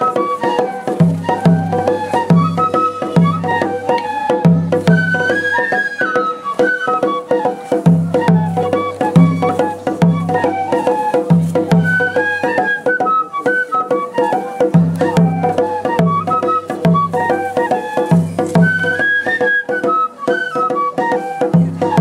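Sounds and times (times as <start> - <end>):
bamboo flute melody: 0.0 - 22.0
taiko drum pattern: 0.2 - 22.0.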